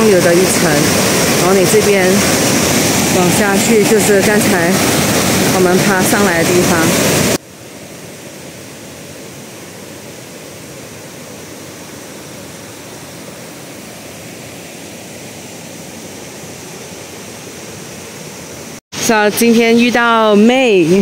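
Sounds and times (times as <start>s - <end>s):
stream rushing over rocks: 0.0s - 18.8s.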